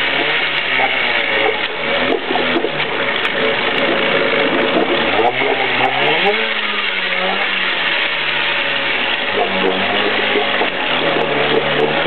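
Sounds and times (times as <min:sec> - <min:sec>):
outboard motor revving: 0:00.0 - 0:12.0.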